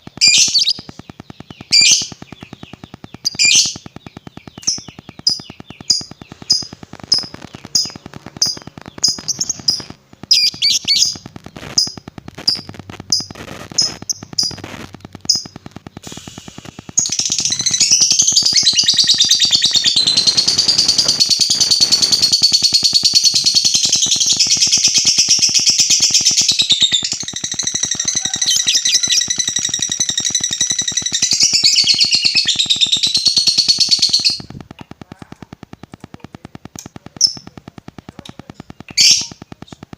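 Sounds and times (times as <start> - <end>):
lovebird chirping and trilling: 0.0 - 35.9, 38.1 - 39.8.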